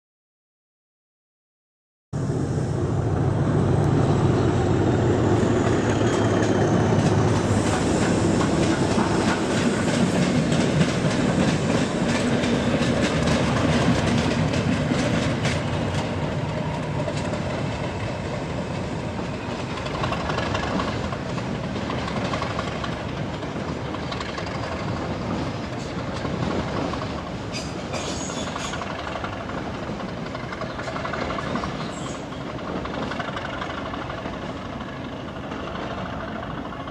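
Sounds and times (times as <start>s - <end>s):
diesel locomotive engine running: 2.2s - 36.9s
train wheels clicking over points: 5.7s - 36.9s.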